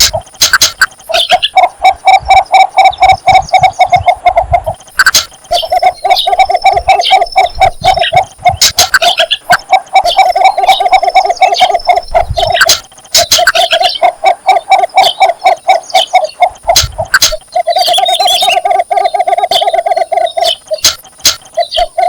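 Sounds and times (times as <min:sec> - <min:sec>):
birds chirping: 0:00.0 - 0:22.0
bittern clucking call: 0:00.0 - 0:22.0
sharp clicks: 0:00.0 - 0:22.0.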